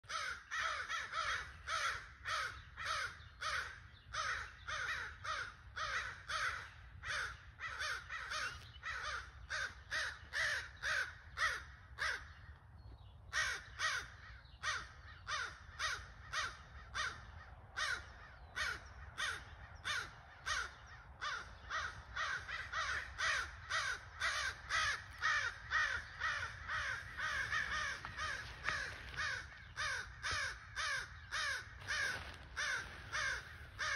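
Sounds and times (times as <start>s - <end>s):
crows cawing: 0.0s - 12.4s, 13.3s - 33.9s.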